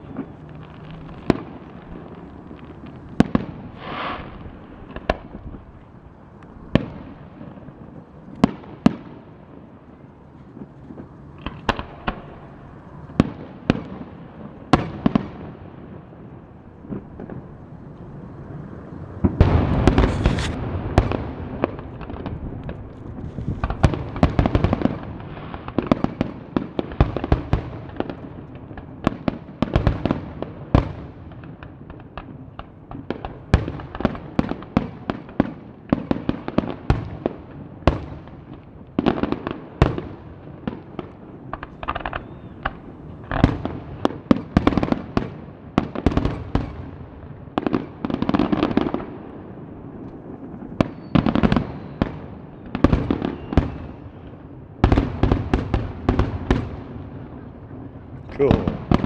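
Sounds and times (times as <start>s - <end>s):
firework bangs: 0.0s - 59.0s
fireworks crackling: 0.0s - 59.0s.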